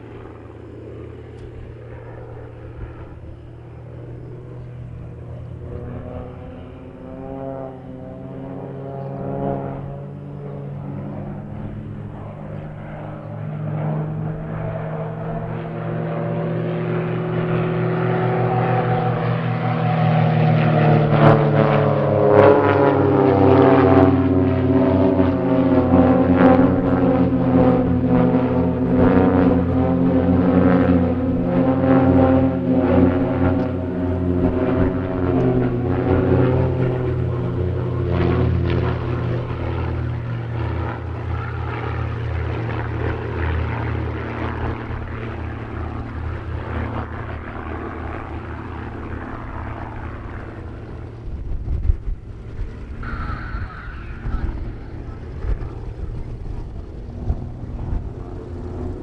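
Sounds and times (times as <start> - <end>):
propeller planes droning: 0.0 - 59.0.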